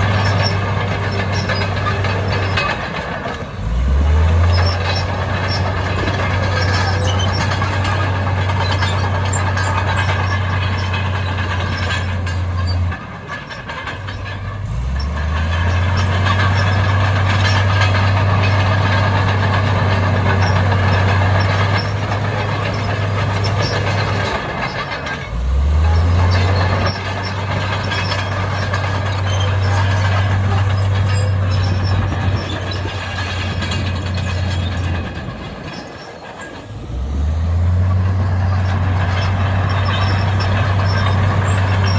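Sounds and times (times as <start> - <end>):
heavy diesel engine droning: 0.0 - 41.9.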